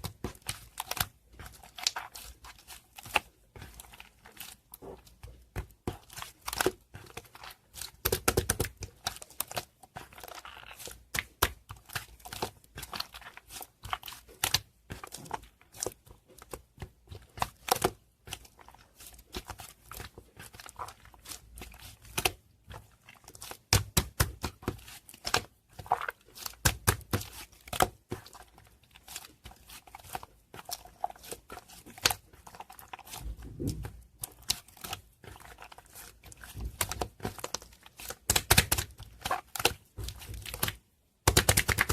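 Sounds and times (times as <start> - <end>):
slime squished by hand: 0.0 - 41.9.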